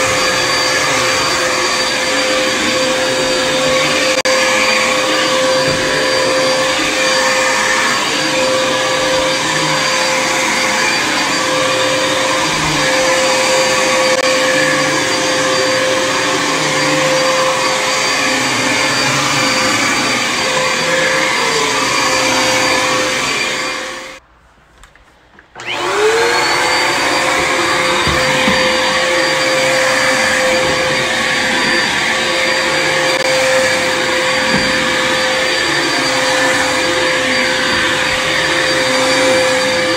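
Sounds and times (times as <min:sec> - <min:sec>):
upright vacuum cleaner running: 0:00.0 - 0:24.2, 0:25.6 - 0:39.9.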